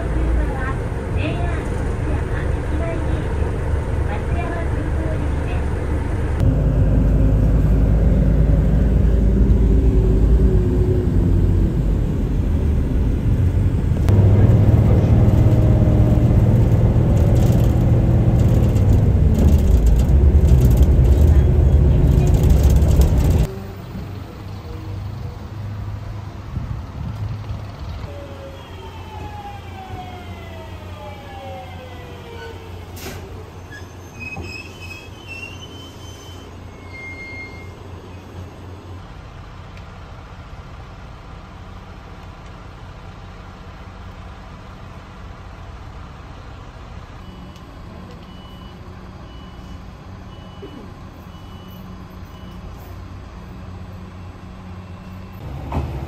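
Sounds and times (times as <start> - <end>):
diesel train engine rumbling: 0.0 - 56.0.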